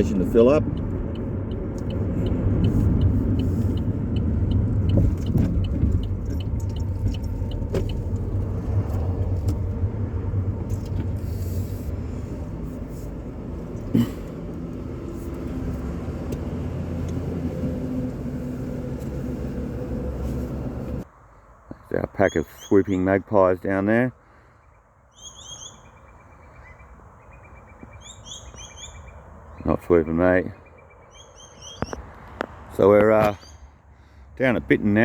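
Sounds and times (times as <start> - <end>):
car engine and road noise: 0.0 - 22.4, 24.2 - 35.0.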